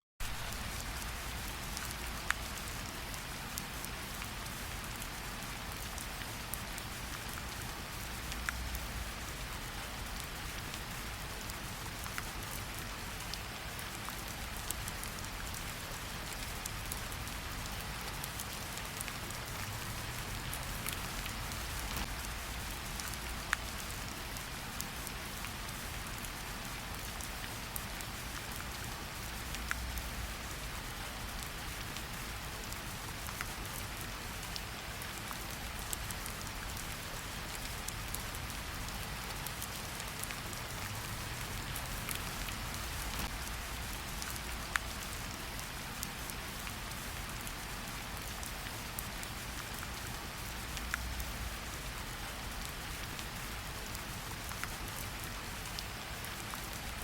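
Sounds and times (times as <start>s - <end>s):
steady rain in forest: 0.2s - 57.0s.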